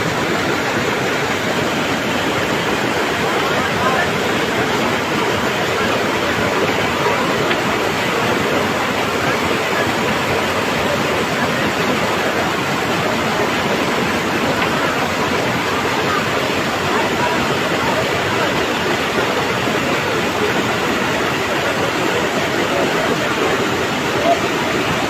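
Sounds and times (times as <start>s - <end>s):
river roaring: 0.0s - 25.0s.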